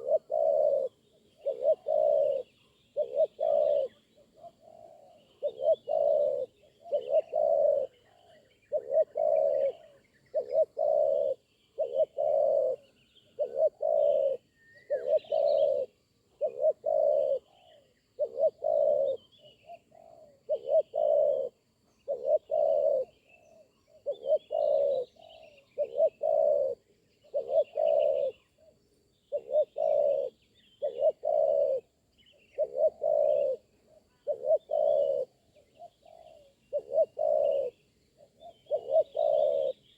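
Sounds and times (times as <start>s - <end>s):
dove cooing: 0.0s - 39.9s
small birds chirping faintly: 0.0s - 39.9s.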